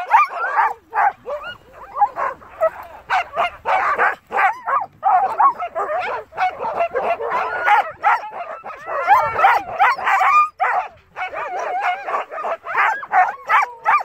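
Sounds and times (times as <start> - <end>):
dogs yelping barking and howling: 0.0 - 14.0.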